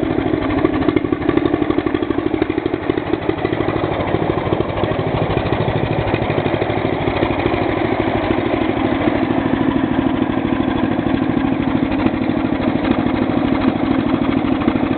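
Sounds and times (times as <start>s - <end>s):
tractor engine running: 0.0s - 14.9s.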